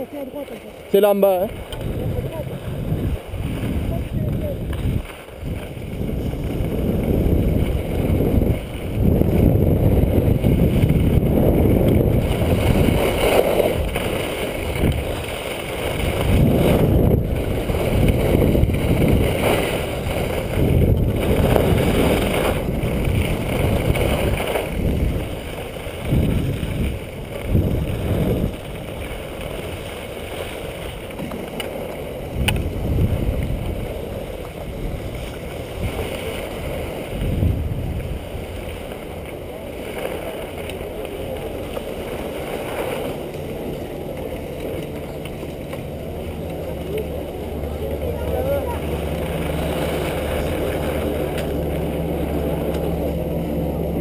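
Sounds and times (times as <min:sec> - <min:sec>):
skis scraping on snow: 0:00.0 - 0:54.0
wind rushing over microphone: 0:00.9 - 0:54.0.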